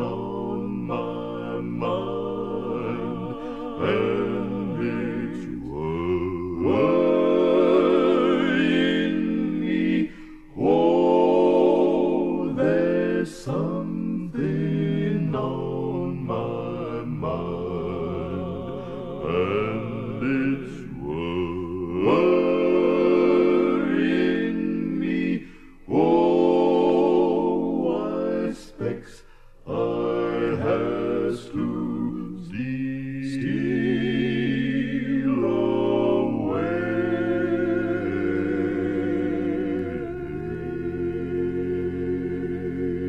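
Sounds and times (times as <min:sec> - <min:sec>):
male vocal quartet singing in harmony: 0:00.0 - 0:43.0.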